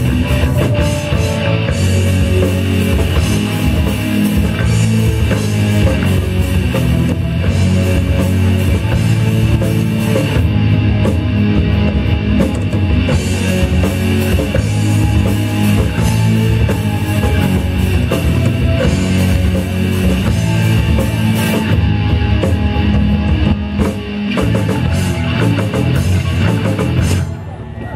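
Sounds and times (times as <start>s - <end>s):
drum kit: 0.0s - 27.9s
electric bass: 0.0s - 27.9s
electric guitar: 0.0s - 27.9s
keyboard: 0.0s - 27.9s.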